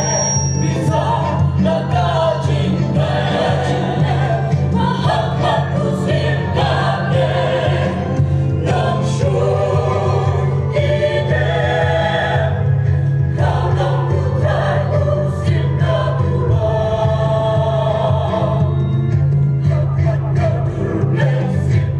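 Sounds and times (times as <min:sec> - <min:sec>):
mixed choir singing: 0:00.0 - 0:21.9.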